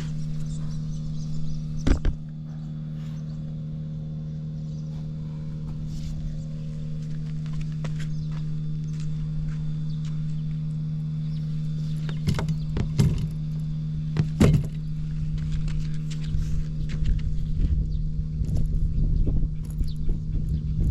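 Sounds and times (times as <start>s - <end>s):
scooter engine idling: 0.0s - 18.4s.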